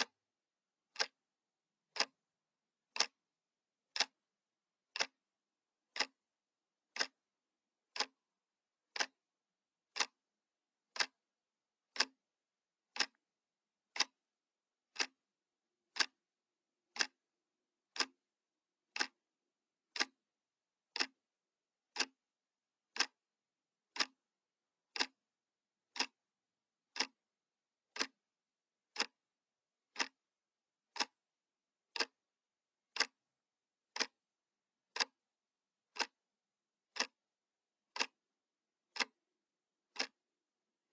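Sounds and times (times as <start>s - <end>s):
clock ticking: 0.0s - 0.2s, 0.8s - 3.3s, 3.9s - 16.3s, 16.9s - 19.3s, 19.9s - 27.3s, 27.9s - 31.2s, 31.9s - 32.3s, 32.9s - 33.3s, 33.9s - 40.4s.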